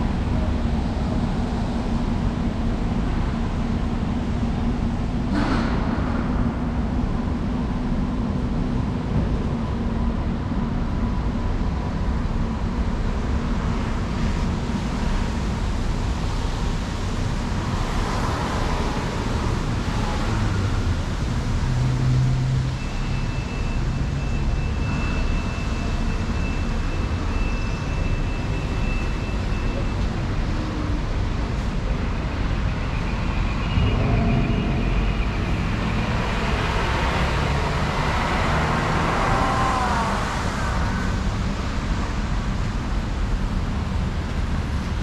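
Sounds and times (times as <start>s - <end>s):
city street traffic rumble: 0.0s - 45.0s.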